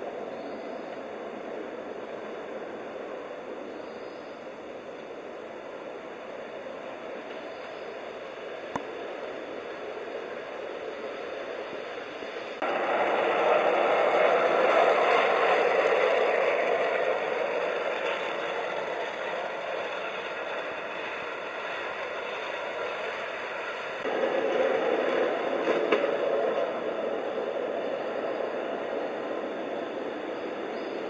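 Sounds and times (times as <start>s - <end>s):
train wheels rushing on rail: 0.0s - 31.0s.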